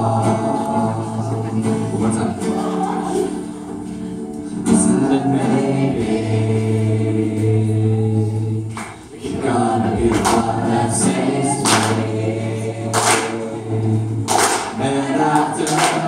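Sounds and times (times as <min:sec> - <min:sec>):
voices singing in harmony: 0:00.0 - 0:16.0.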